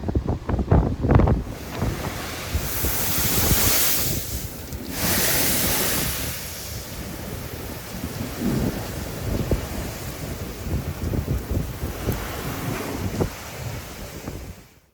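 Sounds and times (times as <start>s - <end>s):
storm waves crashing: 0.0s - 14.8s
wind buffeting microphone: 0.0s - 14.8s.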